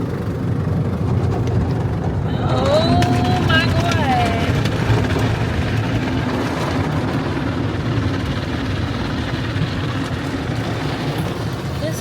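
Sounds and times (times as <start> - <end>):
car wash machinery rumble: 0.0 - 12.0.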